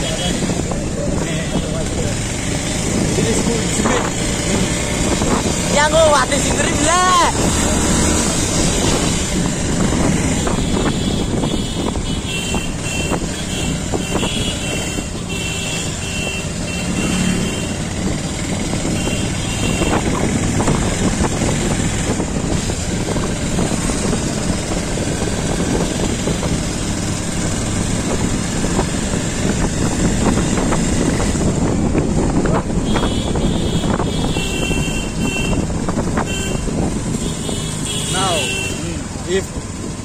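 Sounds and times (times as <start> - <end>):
motorcycle engine running: 0.0 - 40.0
wind rush: 2.5 - 15.2, 17.8 - 37.9.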